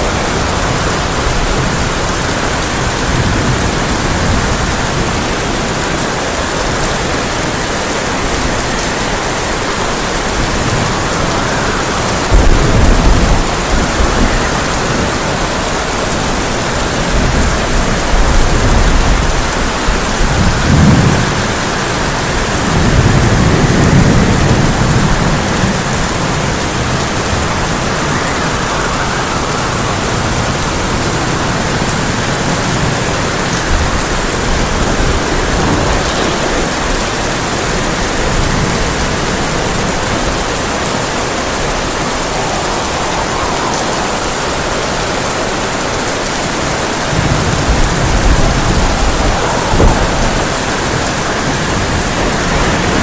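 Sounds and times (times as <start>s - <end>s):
deep thunder rumbles: 0.0s - 53.0s
heavy rain on a tin roof: 0.0s - 53.0s
thunder clap: 0.0s - 53.0s.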